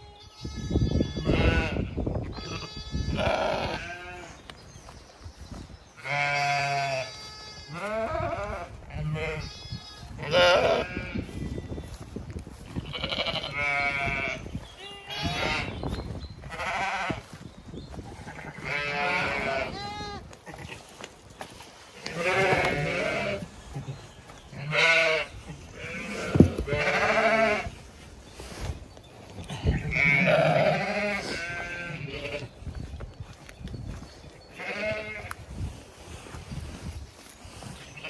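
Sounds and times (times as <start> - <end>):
sheep and lambs bleating: 0.0 - 4.5, 6.0 - 21.0, 21.8 - 28.1, 29.4 - 32.8, 33.9 - 35.8.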